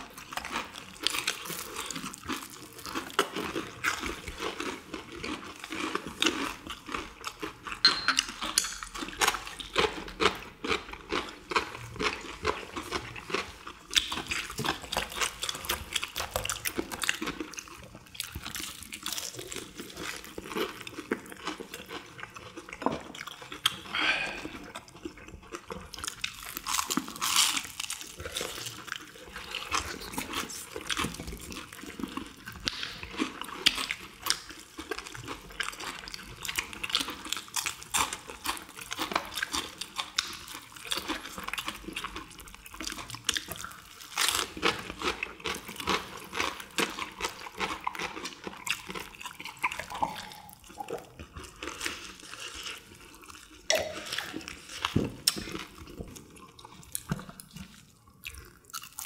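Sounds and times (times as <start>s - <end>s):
crunching fried chicken: 0.0s - 7.8s, 8.8s - 59.0s.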